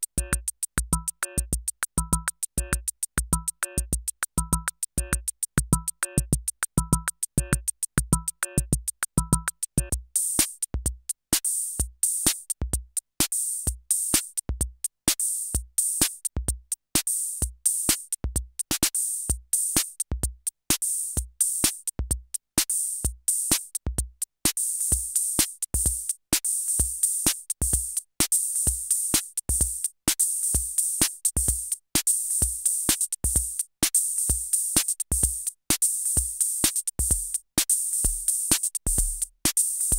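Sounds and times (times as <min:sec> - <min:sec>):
drum machine kick drum: 0:00.0 - 0:39.9.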